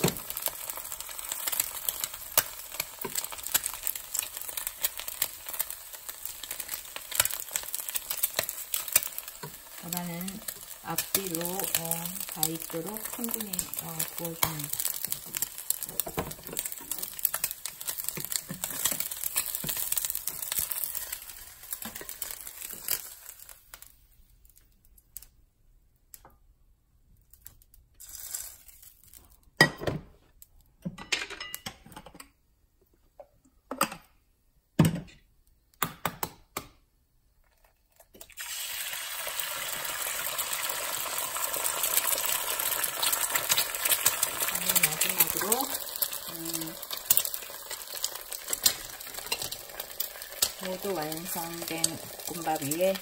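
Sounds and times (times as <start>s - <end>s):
egg sizzling in a pan: 0.0s - 25.3s, 27.6s - 29.5s, 37.6s - 53.0s.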